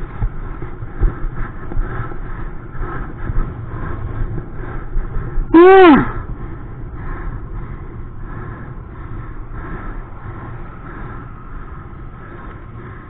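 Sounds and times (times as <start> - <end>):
bicycle tyres on asphalt: 0.0 - 13.0
wind rushing on microphone: 0.0 - 13.0.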